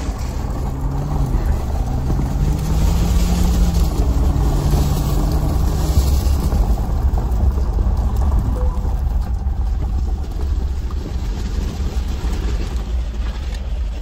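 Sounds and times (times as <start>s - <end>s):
low engine rumble: 0.0s - 14.0s
tyres on gravel: 0.0s - 14.0s.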